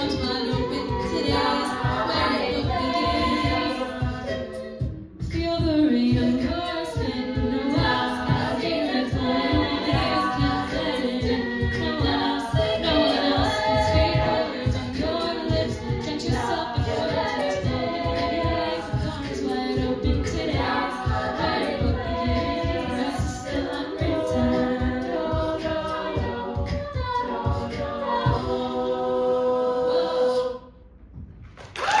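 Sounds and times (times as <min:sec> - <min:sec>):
a cappella group singing: 0:00.0 - 0:31.0
vocal percussion beat: 0:00.0 - 0:32.0.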